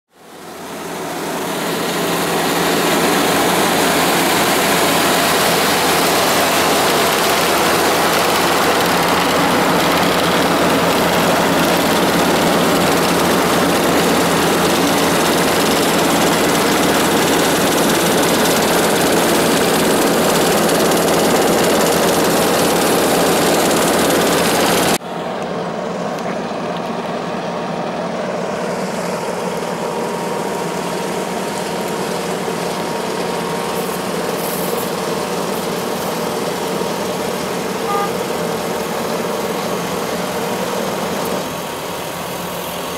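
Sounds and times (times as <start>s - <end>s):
diesel engine and machinery running: 0.1s - 42.9s.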